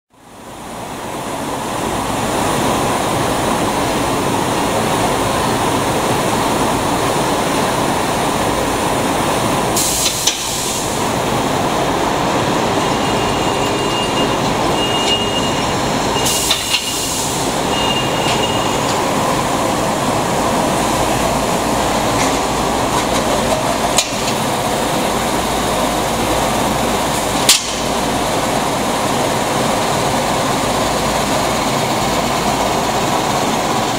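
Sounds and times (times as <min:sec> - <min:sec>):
industrial machinery running: 0:00.2 - 0:33.9.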